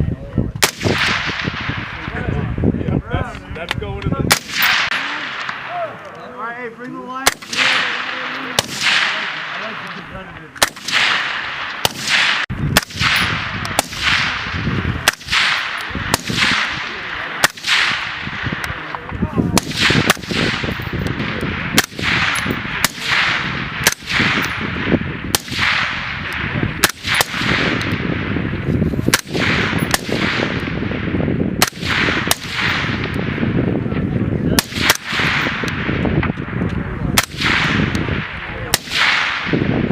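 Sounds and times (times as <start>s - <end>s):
rifle shots echoing: 0.6s - 2.4s, 4.3s - 33.7s, 34.5s - 39.9s.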